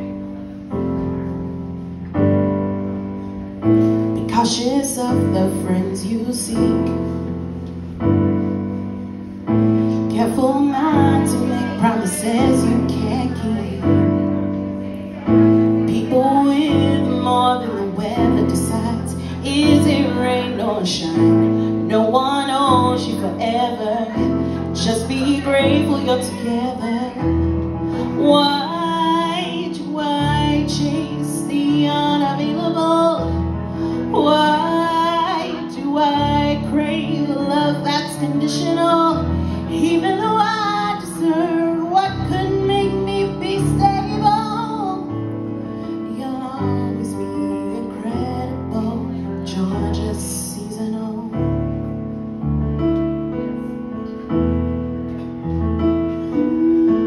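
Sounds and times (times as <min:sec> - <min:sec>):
electric keyboard chords: 0:00.0 - 0:57.0
woman singing: 0:04.1 - 0:07.4, 0:10.0 - 0:51.9, 0:56.1 - 0:57.0.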